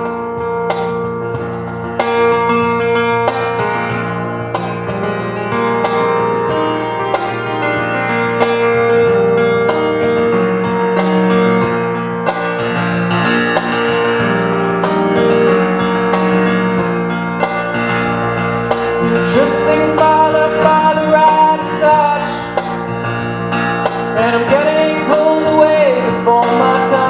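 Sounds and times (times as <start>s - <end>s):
guitar: 0.0s - 27.0s
keyboard chords: 0.0s - 27.0s.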